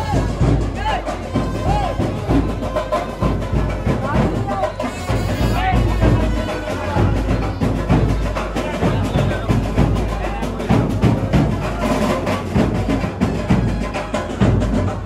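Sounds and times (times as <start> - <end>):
clattering percussion: 0.0 - 15.0
heavy driving drumming: 0.0 - 15.0
procession band music: 0.0 - 15.0.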